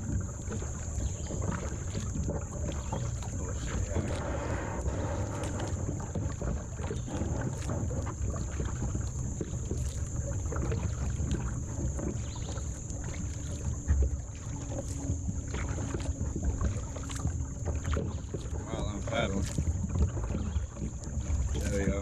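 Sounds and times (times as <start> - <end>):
paddle splashing water: 0.0 - 22.0
water lapping at hull: 0.0 - 22.0
wind rumbling on microphone: 0.0 - 22.0.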